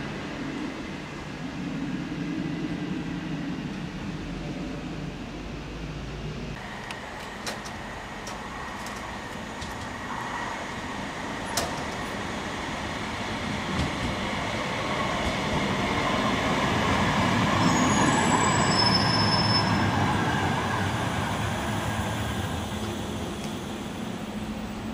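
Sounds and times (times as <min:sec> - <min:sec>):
tram rolling past: 0:00.0 - 0:24.9.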